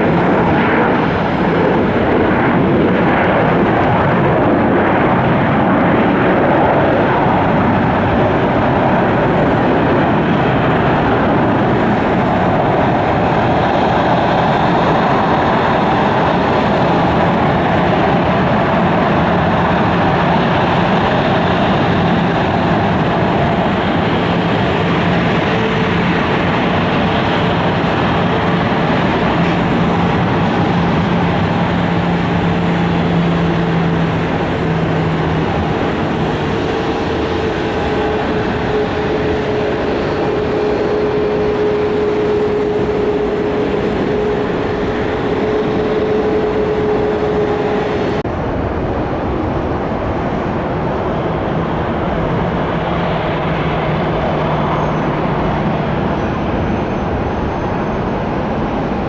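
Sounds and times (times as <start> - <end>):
jet engines rumbling and whining: 0.0 - 59.0
low hum: 6.6 - 59.0.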